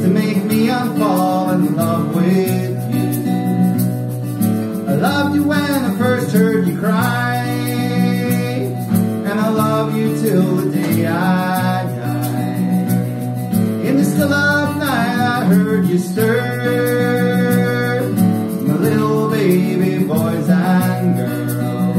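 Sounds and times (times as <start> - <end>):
person singing: 0.0 - 3.3, 4.7 - 21.9
strummed guitar chords: 0.0 - 21.9.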